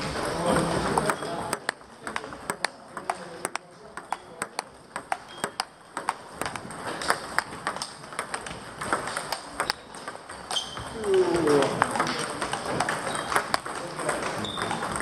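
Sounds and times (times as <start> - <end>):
table tennis ball clicks: 0.8 - 15.0.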